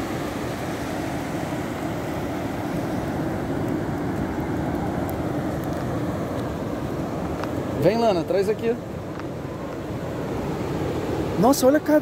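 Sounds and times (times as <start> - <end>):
ocean surf breaking: 0.0 - 12.0
wind rumble on microphone: 0.0 - 12.0.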